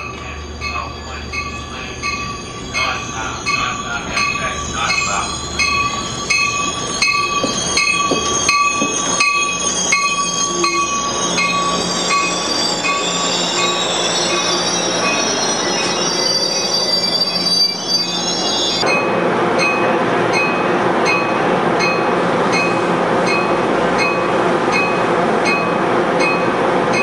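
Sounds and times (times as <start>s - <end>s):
high wheel squeal: 0.0s - 27.0s
train bell ringing: 0.0s - 27.0s
train wheels rumbling: 0.0s - 27.0s.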